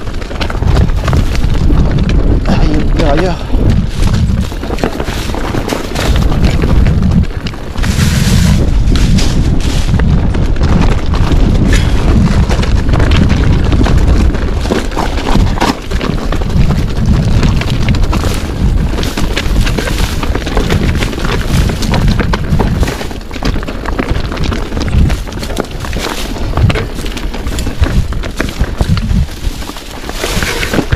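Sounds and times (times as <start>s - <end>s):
bike rattling and knocking: 0.0s - 30.9s
wind buffeting microphone: 0.0s - 30.9s.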